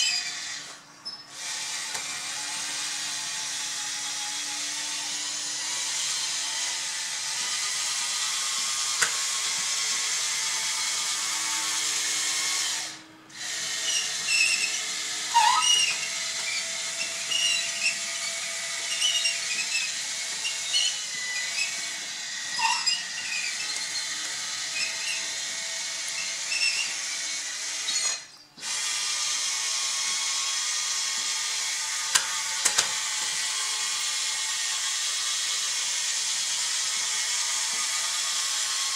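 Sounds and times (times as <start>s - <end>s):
electric motors whining: 0.0s - 38.9s
short whirs and squeaks: 0.0s - 38.9s.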